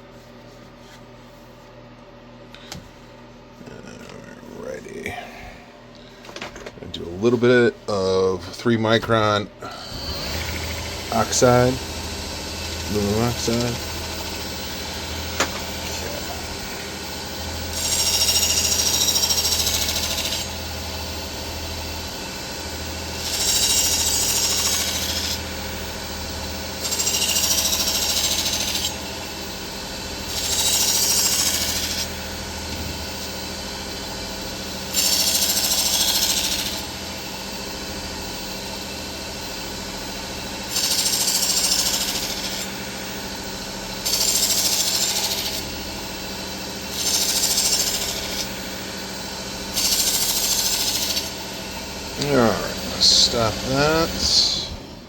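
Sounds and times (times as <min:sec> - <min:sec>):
belt grinder motor hum: 0:09.6 - 0:55.0.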